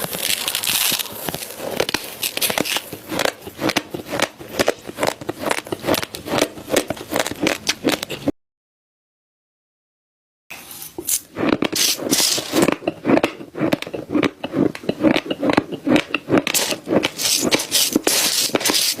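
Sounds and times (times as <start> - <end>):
chewing crunchy food: 0.0 - 8.3, 11.0 - 19.0.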